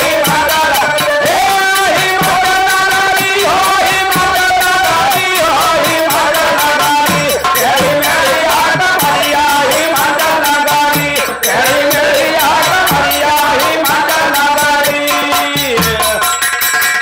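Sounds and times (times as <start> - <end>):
drums struck with sticks: 0.0 - 16.4
men singing: 0.0 - 16.5.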